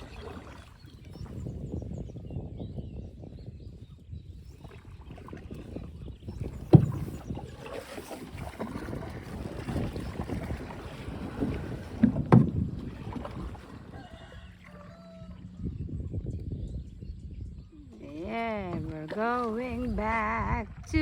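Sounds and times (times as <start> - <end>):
water sloshing around a boat: 0.0 - 21.0
wind on microphone: 0.0 - 21.0.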